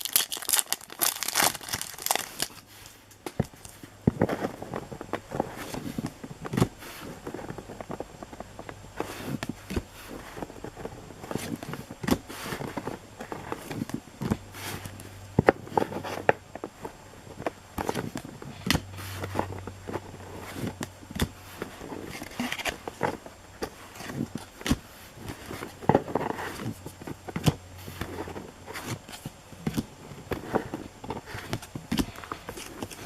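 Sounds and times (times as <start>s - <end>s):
cards and wrappers crinkling: 0.0s - 33.0s.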